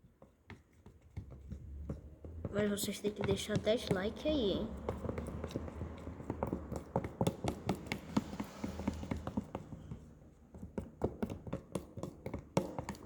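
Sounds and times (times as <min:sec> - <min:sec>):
slime being stirred: 0:00.0 - 0:13.0.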